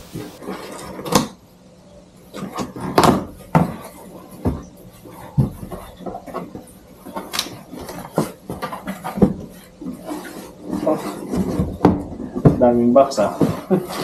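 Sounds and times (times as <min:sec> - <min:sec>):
cardboard flaps rustling: 0:02.3 - 0:14.0
cardboard knocks and scrapes: 0:02.3 - 0:14.0.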